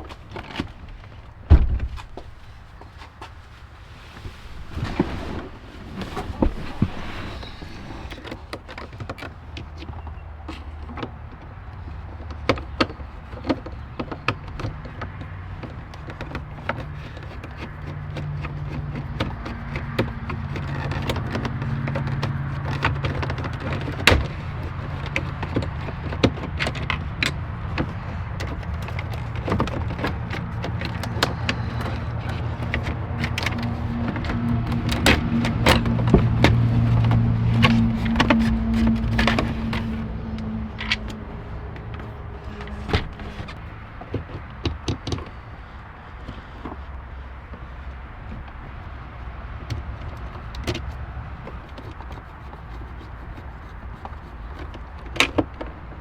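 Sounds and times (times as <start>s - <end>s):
light clicks and knocks on dashboard: 8.1s - 56.0s.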